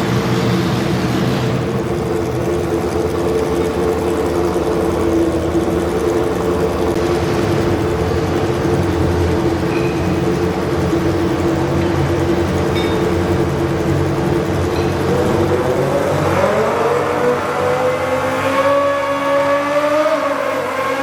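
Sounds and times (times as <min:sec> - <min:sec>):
garden tractor engine running: 0:00.0 - 0:17.2.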